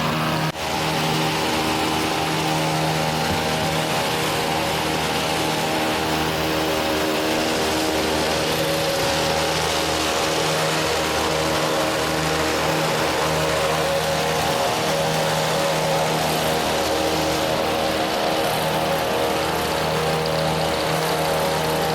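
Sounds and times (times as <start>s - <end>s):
hedge trimmer engine running: 0.0s - 21.9s.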